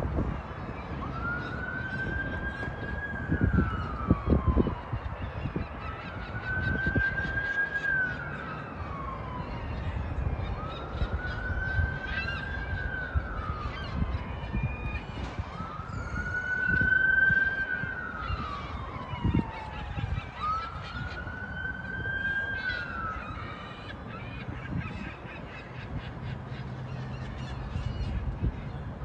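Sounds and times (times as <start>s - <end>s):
siren wailing: 0.0s - 25.3s.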